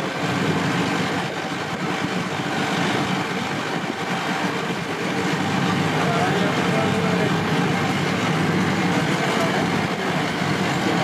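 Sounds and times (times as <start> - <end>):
vehicle engine and rolling noise: 0.0 - 11.0.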